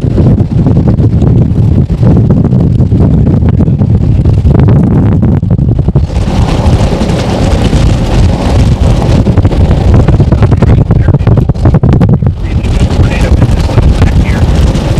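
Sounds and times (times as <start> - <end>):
wind buffeting microphone: 0.0 - 14.9
wind hiss: 0.0 - 14.9.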